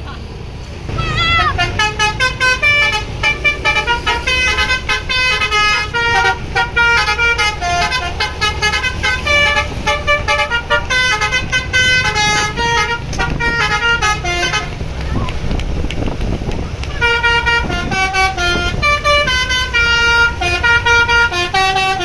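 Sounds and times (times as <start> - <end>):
bus engine rumbling: 0.0 - 22.0
multi-tone bus horn tune: 0.9 - 15.0, 16.9 - 22.0.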